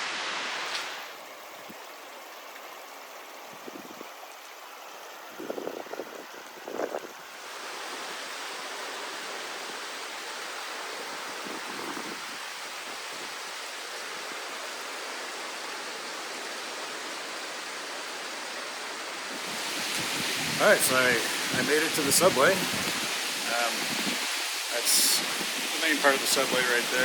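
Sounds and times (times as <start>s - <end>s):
creek water rushing over rock: 0.0s - 27.0s.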